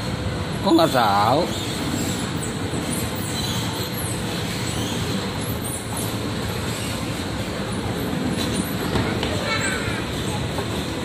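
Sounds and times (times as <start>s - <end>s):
moving walkway rumble: 0.0s - 11.0s.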